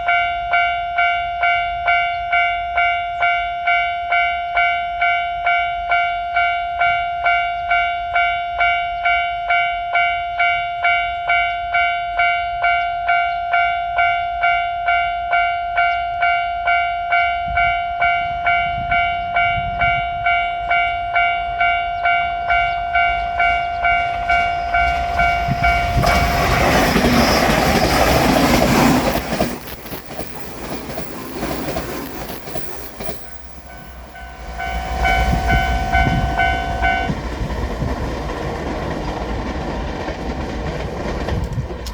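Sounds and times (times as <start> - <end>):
level crossing warning bell ringing: 0.0 - 38.0
electric train passing on rails: 0.0 - 41.9.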